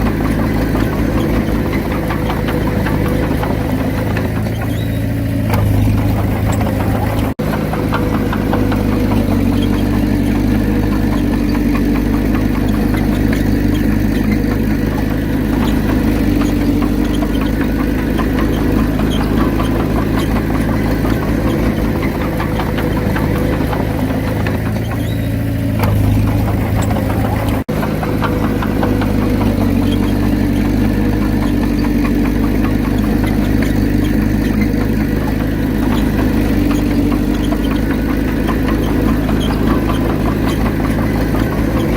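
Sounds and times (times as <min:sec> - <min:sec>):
bulldozer diesel engine throbbing: 0:00.0 - 0:41.9.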